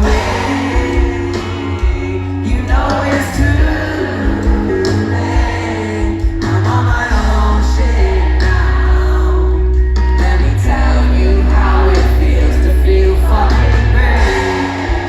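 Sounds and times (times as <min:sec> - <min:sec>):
heavy bass line: 0:00.0 - 0:15.0
live band music: 0:00.0 - 0:15.0
person singing: 0:00.0 - 0:15.0.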